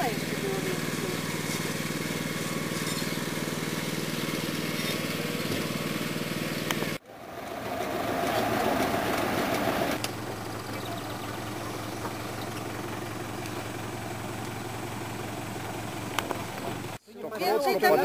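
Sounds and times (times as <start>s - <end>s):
backhoe loader engine running: 0.0s - 17.0s
road works machinery engines: 0.0s - 17.0s.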